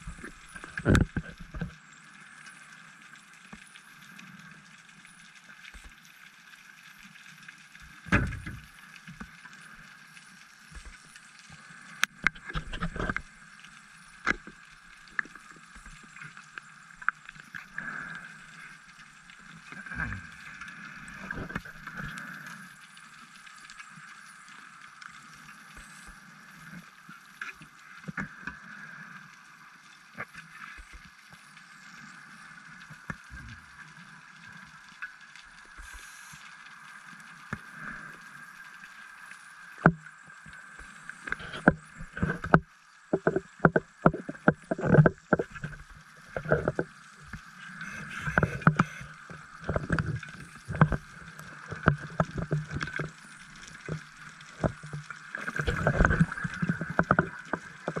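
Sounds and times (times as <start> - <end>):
steady underwater hum: 0.0 - 58.0.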